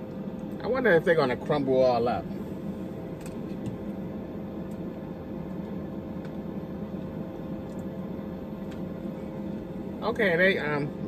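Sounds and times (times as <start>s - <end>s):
air fryer fan humming: 0.0s - 11.0s.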